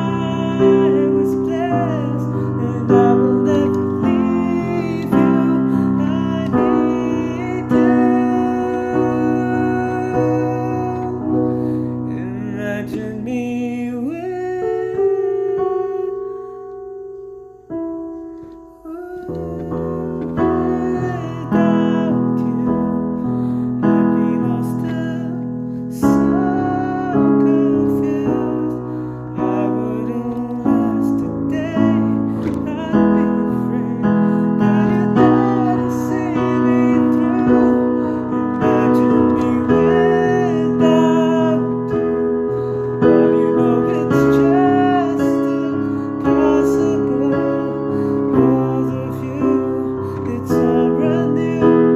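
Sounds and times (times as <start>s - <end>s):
piano playing slow chords: 0.0s - 51.9s.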